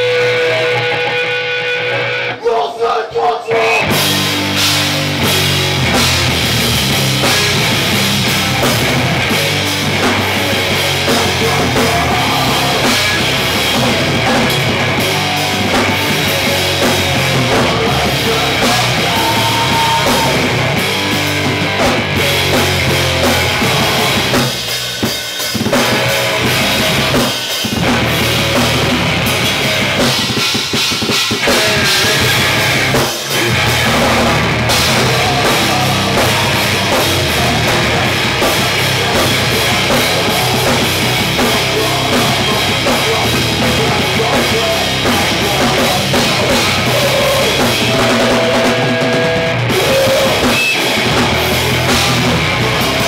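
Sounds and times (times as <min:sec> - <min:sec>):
drum kit: 0:00.0 - 0:02.4, 0:03.5 - 0:53.0
electric guitars: 0:00.0 - 0:02.4, 0:03.6 - 0:53.0.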